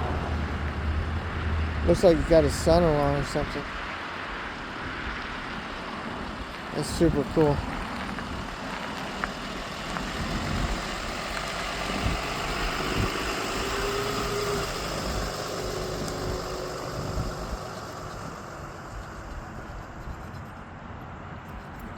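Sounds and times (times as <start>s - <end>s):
truck engine running: 0.0s - 3.7s, 6.4s - 20.6s.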